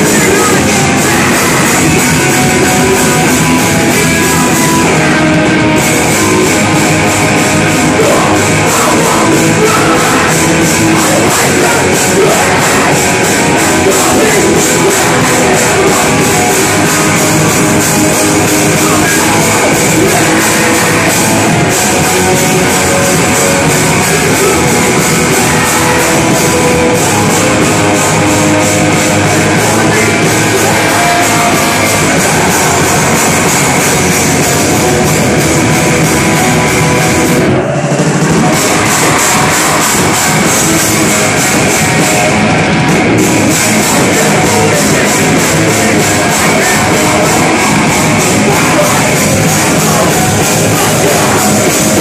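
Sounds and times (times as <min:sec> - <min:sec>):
bass guitar: 0:00.0 - 0:52.0
drum kit: 0:00.0 - 0:52.0
electric guitars: 0:00.0 - 0:52.0.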